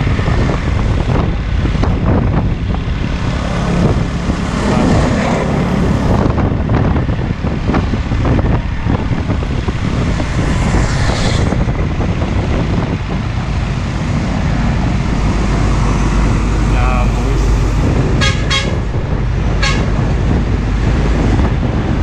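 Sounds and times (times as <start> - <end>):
low road rumble: 0.0 - 22.0
truck diesel engine passing: 0.0 - 22.0.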